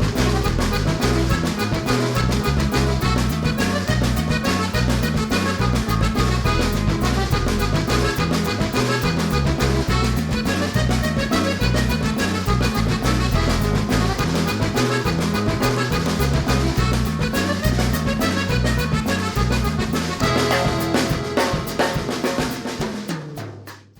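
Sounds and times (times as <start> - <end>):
bouncing bass line: 0.0 - 23.0
accordion-like lead melody: 0.0 - 23.1.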